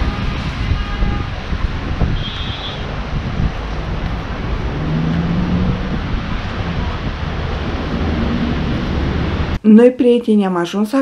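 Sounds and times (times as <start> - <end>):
traffic: 0.0 - 9.6
wind rumble on microphone: 0.0 - 9.6.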